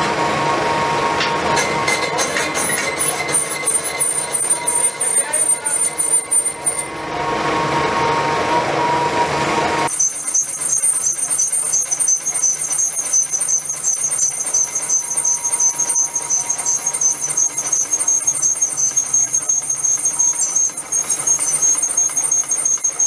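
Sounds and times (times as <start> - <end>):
metal lathe cutting: 0.0 - 23.0
high squeal of tool on metal: 1.6 - 23.0.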